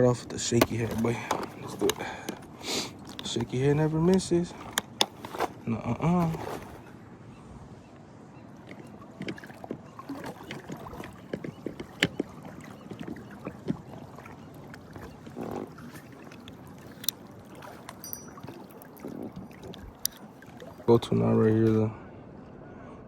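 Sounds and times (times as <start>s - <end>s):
light water sounds: 0.0s - 5.6s, 8.4s - 21.9s.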